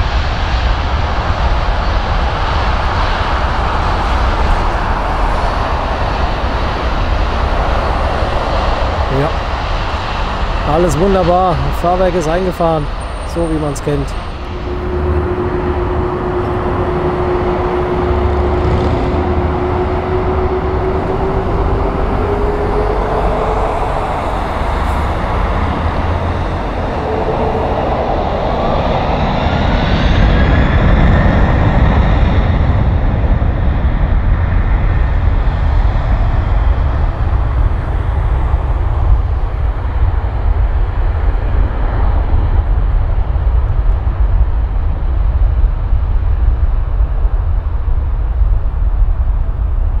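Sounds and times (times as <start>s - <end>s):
jet engines rumbling with whine: 0.0s - 50.0s
rising engine whine: 0.0s - 50.0s.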